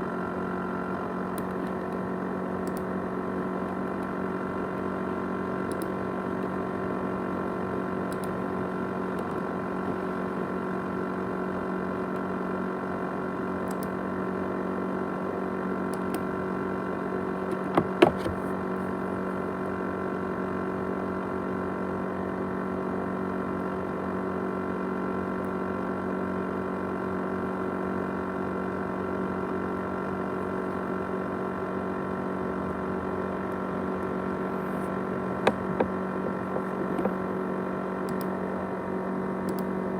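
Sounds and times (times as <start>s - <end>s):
laptop hard drive whirring: 0.6s - 39.9s.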